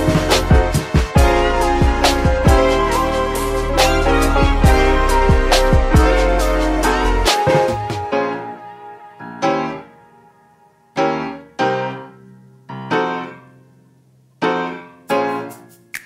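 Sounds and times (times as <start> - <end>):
slow piano chords: 0.0 - 15.7.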